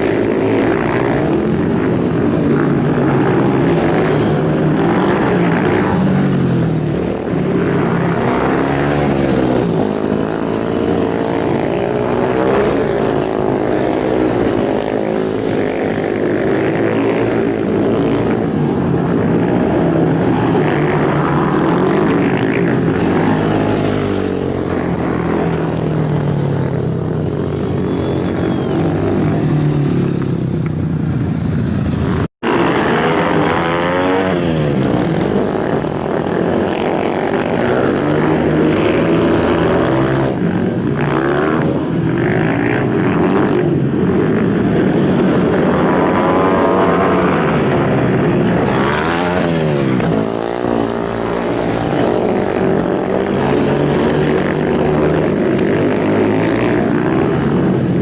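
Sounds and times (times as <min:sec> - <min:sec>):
motorbike engines revving: 0:00.0 - 0:58.0.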